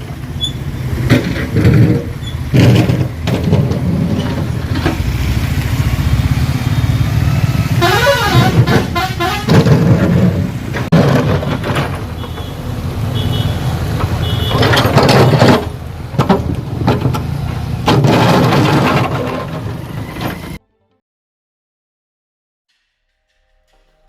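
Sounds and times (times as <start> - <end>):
trucks passing: 0.0 - 20.6.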